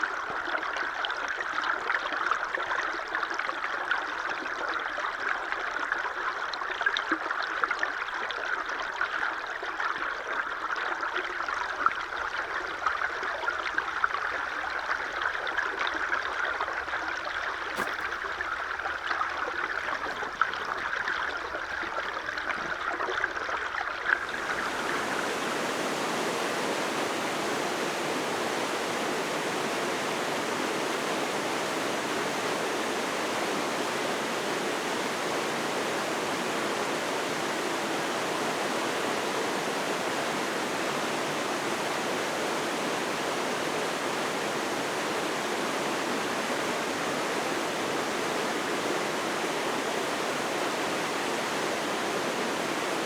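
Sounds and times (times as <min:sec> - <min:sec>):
rush of running water: 0:00.0 - 0:53.0.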